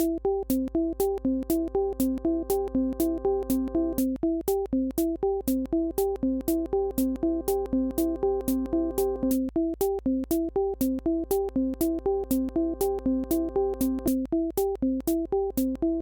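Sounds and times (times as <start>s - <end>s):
looping synthesizer melody: 0.0s - 16.0s.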